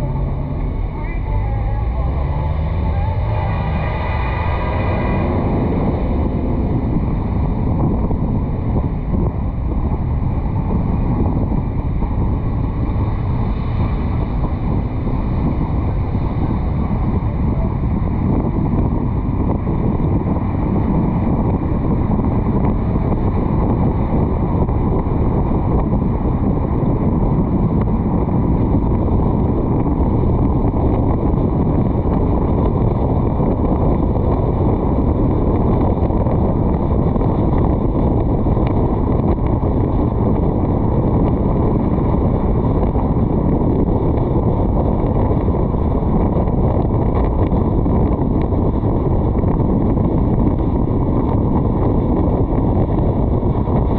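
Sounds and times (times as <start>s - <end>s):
car road noise: 0.0s - 53.9s
wind rumble on microphone: 0.0s - 53.9s.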